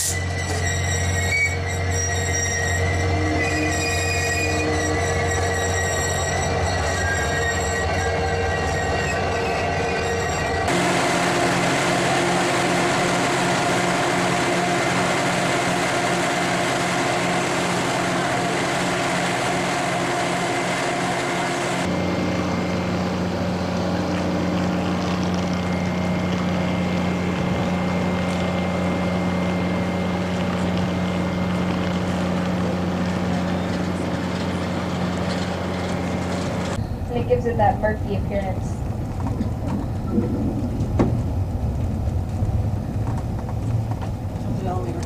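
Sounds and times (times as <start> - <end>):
locomotive engines idling: 0.0 - 45.0.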